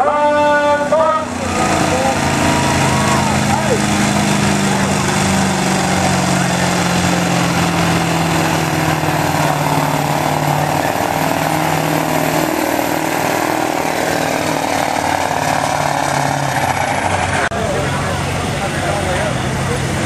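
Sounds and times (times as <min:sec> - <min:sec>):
diesel truck engine under heavy load: 0:00.0 - 0:20.0.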